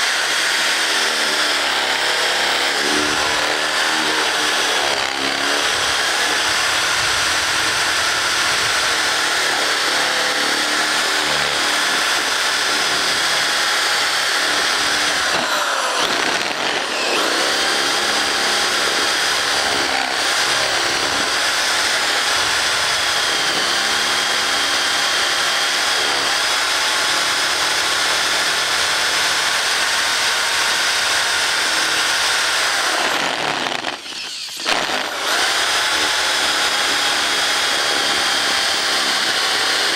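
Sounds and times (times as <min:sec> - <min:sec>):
power drill boring through paper: 0:00.0 - 0:39.9.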